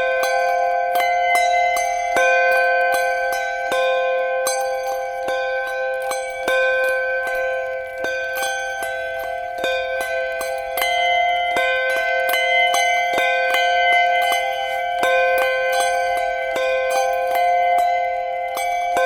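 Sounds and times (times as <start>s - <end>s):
handbells ringing: 0.0s - 19.0s.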